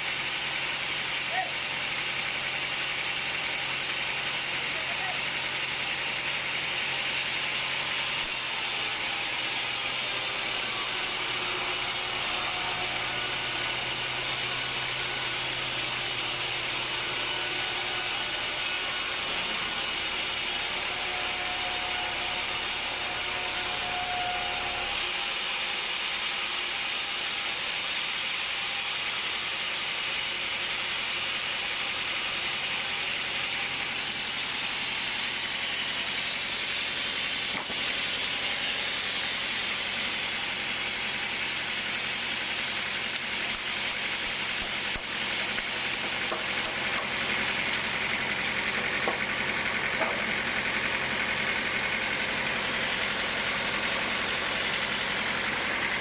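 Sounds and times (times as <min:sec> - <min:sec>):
sawmill machinery rushing: 0:00.0 - 0:56.0.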